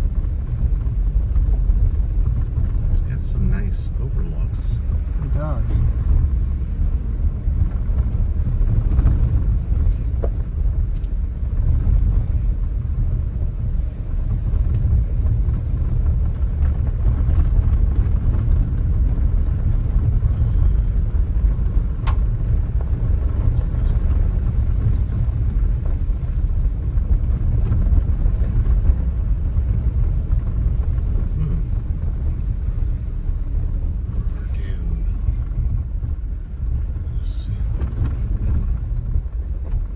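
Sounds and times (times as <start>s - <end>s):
low rumble of car driving: 0.0s - 39.9s.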